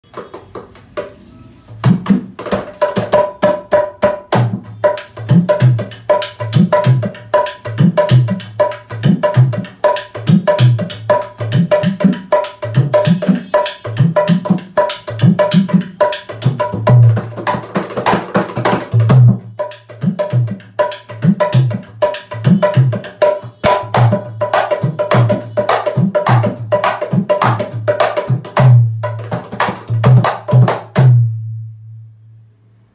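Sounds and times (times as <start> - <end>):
hand drum rhythm: 0.1 - 31.4.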